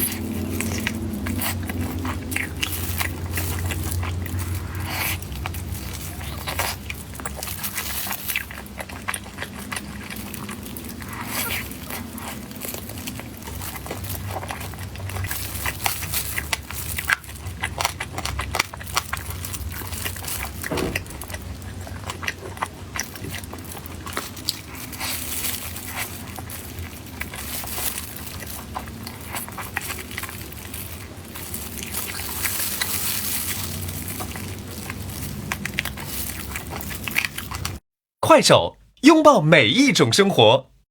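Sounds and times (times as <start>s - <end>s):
crunchy bites and chewing: 0.0s - 37.8s.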